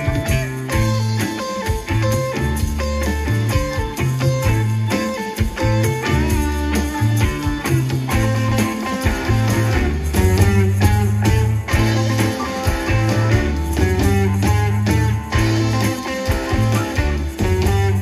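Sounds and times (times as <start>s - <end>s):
electric guitar: 0.0s - 18.0s
live rock band playing: 0.0s - 18.0s.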